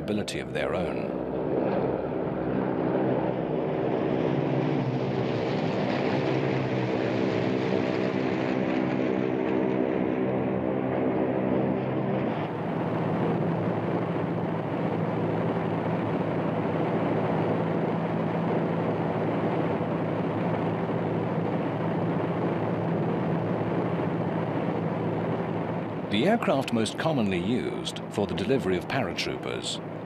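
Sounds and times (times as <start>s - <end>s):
propeller aircraft engines droning: 0.0s - 30.0s.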